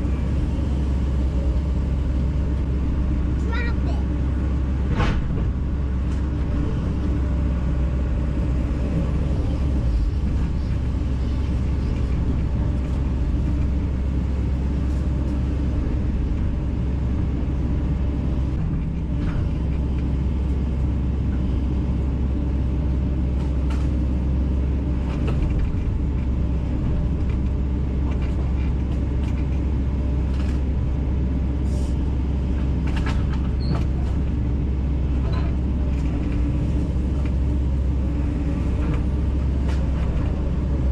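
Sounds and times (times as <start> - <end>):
excavator diesel engine drone: 0.0 - 40.9.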